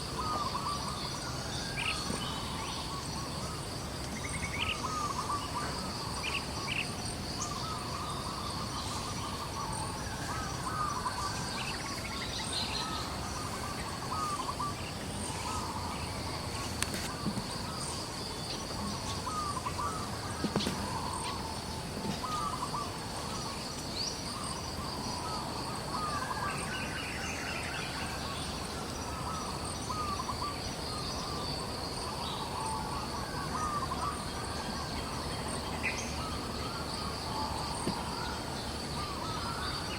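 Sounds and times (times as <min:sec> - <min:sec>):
chirping bird calls: 0:00.0 - 0:39.9.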